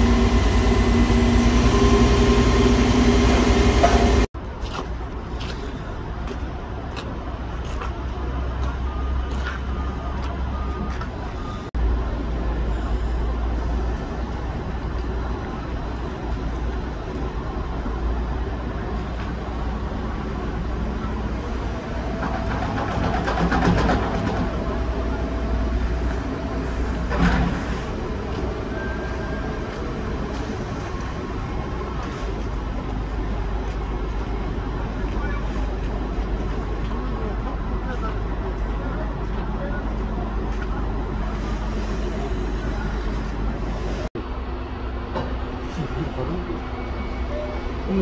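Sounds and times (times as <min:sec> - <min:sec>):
heavy machinery engine rumble: 0:00.0 - 0:04.3, 0:08.3 - 0:48.0.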